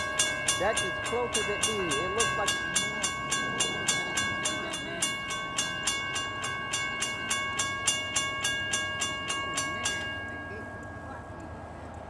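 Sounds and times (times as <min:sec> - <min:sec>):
crossing warning bell ringing: 0:00.0 - 0:12.0.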